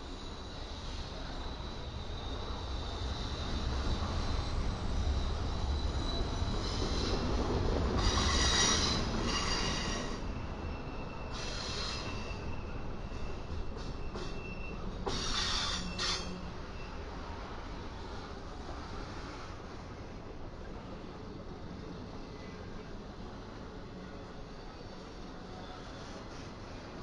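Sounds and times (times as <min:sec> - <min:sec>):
freight train rumbling past: 0:00.0 - 0:27.0
steel wheels squealing on rails: 0:00.0 - 0:27.0.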